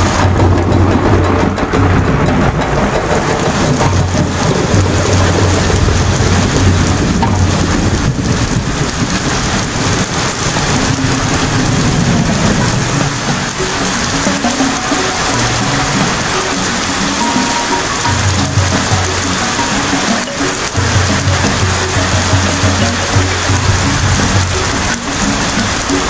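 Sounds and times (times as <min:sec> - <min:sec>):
heavy rain: 0:00.0 - 0:26.0
thunder rumbling: 0:00.0 - 0:26.0.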